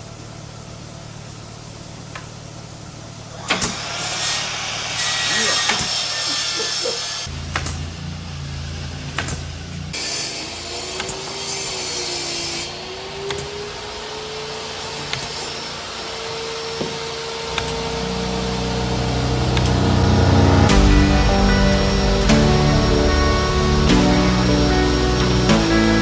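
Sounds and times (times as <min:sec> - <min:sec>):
power tool on wood: 0:03.3 - 0:08.3, 0:09.1 - 0:26.0.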